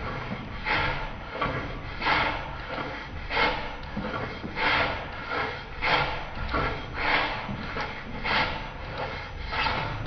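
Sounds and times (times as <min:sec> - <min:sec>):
hand plane shaving wood: 0:00.0 - 0:10.0.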